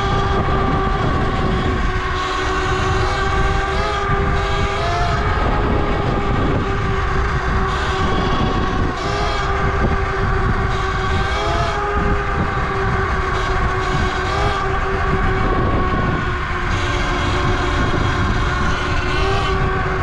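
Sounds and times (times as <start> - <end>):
electric motorbike motor whining: 0.0 - 20.0
wind rumble on microphone: 0.0 - 20.0.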